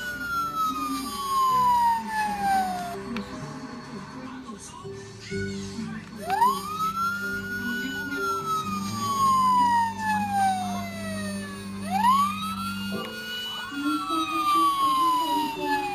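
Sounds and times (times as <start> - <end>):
electronic police siren wail: 0.0 - 3.2, 6.2 - 15.9.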